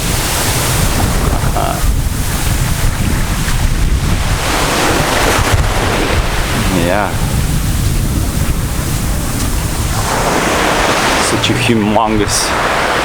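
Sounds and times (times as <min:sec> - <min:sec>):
sea surf on a beach: 0:00.0 - 0:13.0
wind buffeting microphone: 0:00.0 - 0:13.0.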